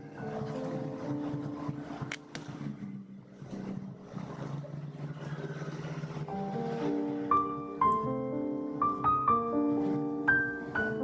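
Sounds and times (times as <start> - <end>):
soft held low music notes: 0.0 - 11.0.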